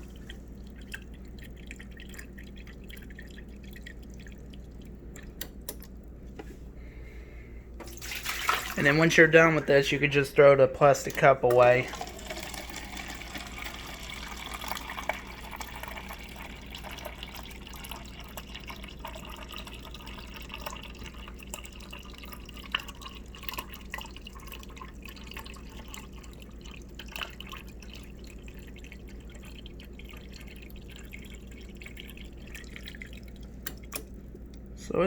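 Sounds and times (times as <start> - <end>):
water running into plastic cup: 0.0 - 6.1, 7.8 - 34.6
water spitting and dripping: 0.0 - 6.2, 7.8 - 34.7.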